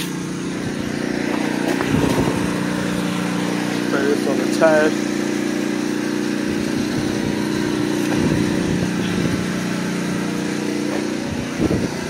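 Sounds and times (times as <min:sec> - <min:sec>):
water spray hissing on tyre: 0:00.0 - 0:11.9
pressure washer drone: 0:00.0 - 0:12.0.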